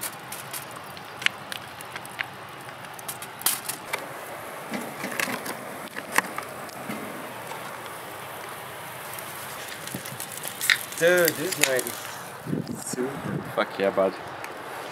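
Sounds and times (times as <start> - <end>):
sharp pops: 0.0 - 12.9
grill hissing: 0.0 - 13.6
charcoal grill crackling: 0.0 - 14.9.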